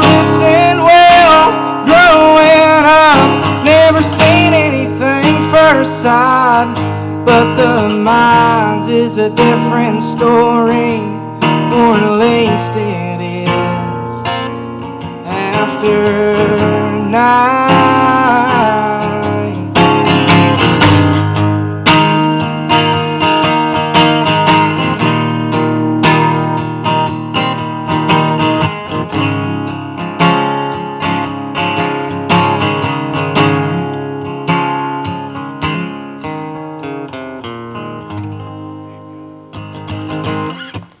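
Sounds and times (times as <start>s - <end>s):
acoustic guitar playing: 0.0s - 41.0s.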